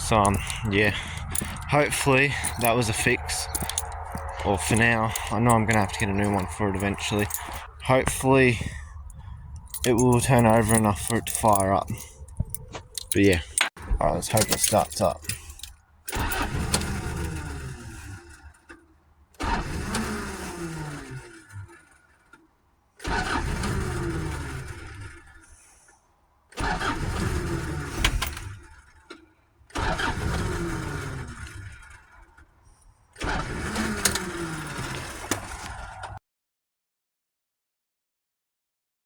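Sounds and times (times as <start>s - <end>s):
engine cranking: 0.0s - 25.6s, 26.5s - 36.2s.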